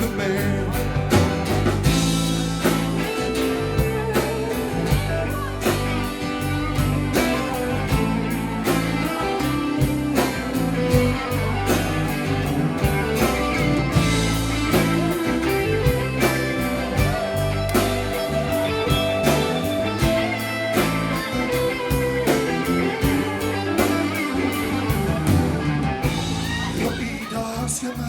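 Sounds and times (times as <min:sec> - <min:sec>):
electric guitar: 0:00.0 - 0:28.0
live rock band playing: 0:00.0 - 0:28.0.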